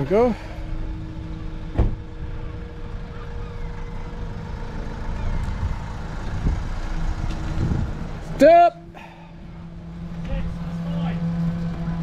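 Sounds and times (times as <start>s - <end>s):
motor running low rumble: 0.0s - 12.0s.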